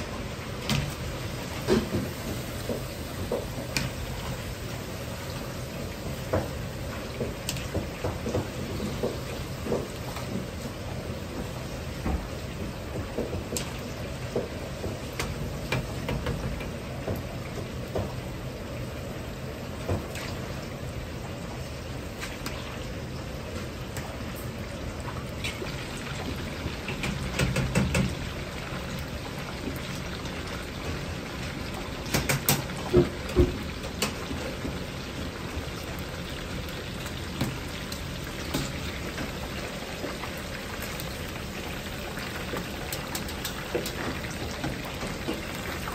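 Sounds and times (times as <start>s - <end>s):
chicken deep-frying in oil: 0.0s - 45.9s.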